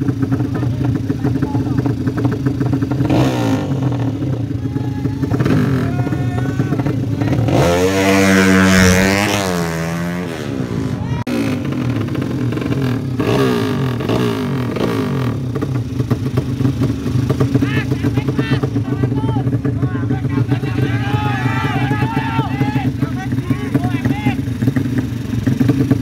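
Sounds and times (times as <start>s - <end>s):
high-revving motorcycle engine: 0.0s - 26.0s
racing motorcycle engines revving: 0.0s - 26.0s.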